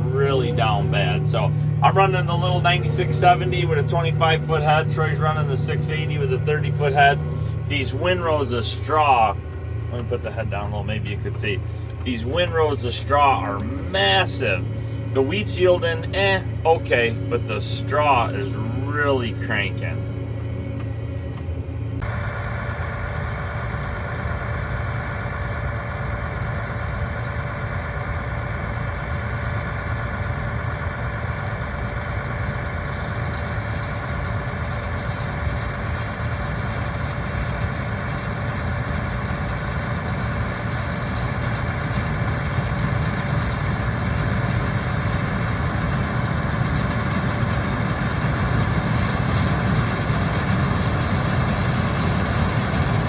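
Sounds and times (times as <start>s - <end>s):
combine harvester engine drone: 0.0s - 53.0s
machinery whine: 0.0s - 53.0s.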